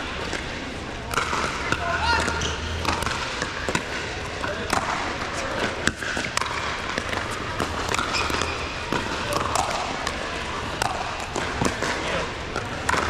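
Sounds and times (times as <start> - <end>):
hubbub of voices: 0.0 - 13.0
ball bouncing on hard court: 1.1 - 13.0.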